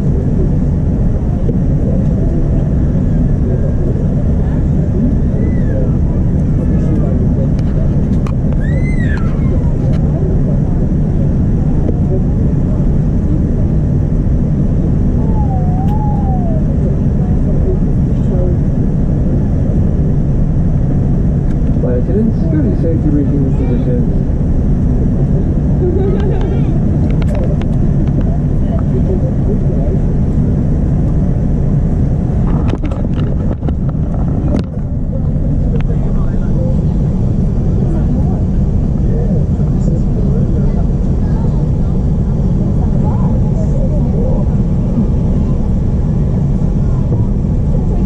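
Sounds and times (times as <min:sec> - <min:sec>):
aircraft cabin engine rumble: 0:00.0 - 0:48.0
faint wavering whine: 0:00.0 - 0:48.0.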